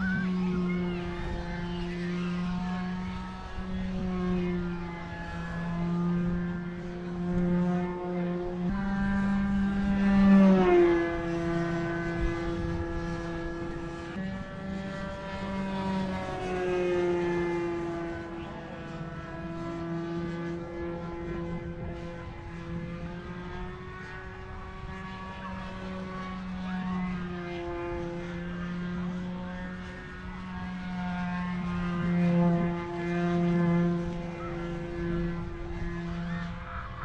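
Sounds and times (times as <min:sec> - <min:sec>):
model aircraft engine buzzing: 0:00.0 - 0:37.0.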